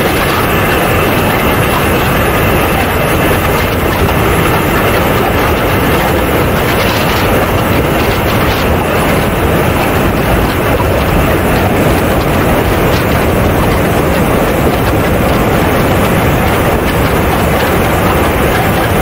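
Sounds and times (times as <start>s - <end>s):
model jet engine rush: 0.0s - 19.0s
wind buffeting microphone: 0.0s - 19.0s.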